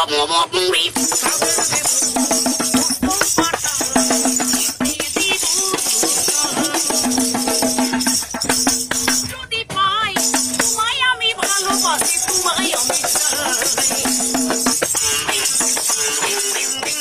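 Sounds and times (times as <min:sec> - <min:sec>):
metal percussion jangling: 0:00.9 - 0:09.5, 0:10.2 - 0:17.0.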